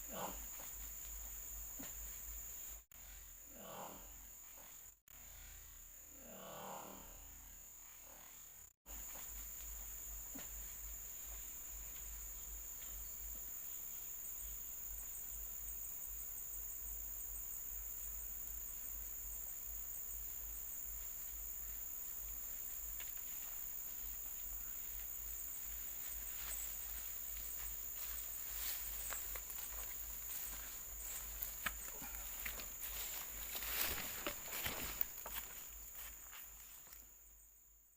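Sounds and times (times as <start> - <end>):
insects droning: 0.0 - 37.9.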